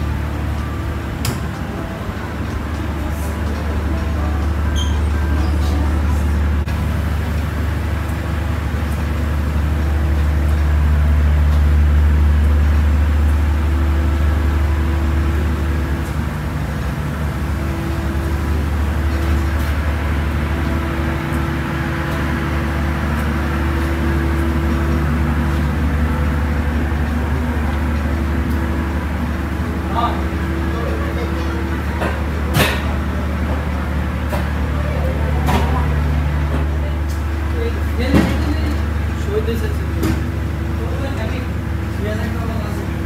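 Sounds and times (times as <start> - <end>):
boat engine rumble: 0.0 - 43.0.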